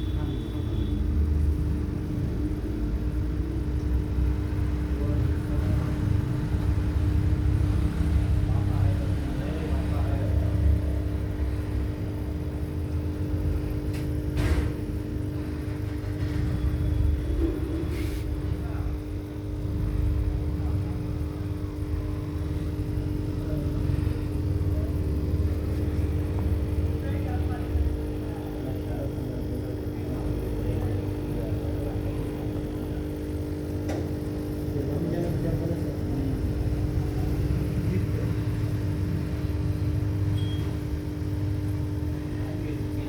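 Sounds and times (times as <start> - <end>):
aquarium equipment electrical hum: 0.0 - 43.0.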